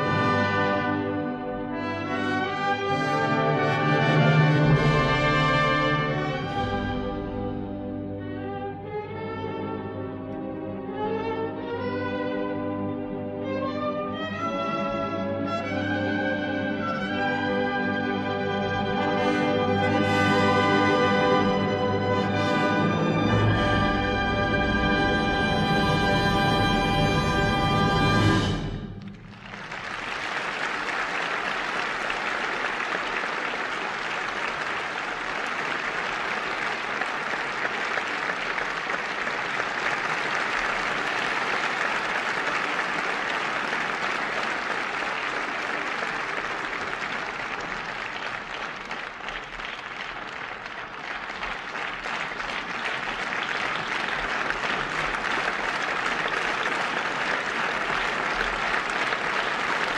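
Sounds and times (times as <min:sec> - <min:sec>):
audience applauding: 0:00.0 - 0:07.6, 0:15.6 - 0:59.9.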